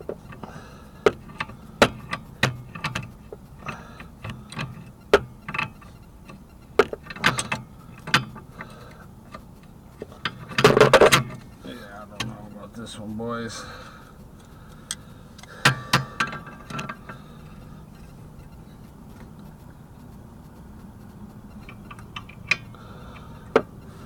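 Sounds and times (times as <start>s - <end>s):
hand tools clicking on metal: 0.0s - 12.7s, 13.4s - 19.5s, 21.3s - 24.0s.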